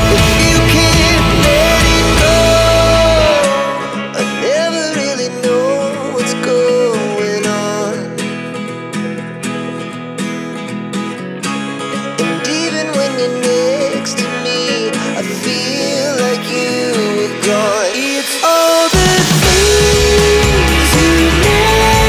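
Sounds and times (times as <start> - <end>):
guitar background music: 0.0 - 22.0.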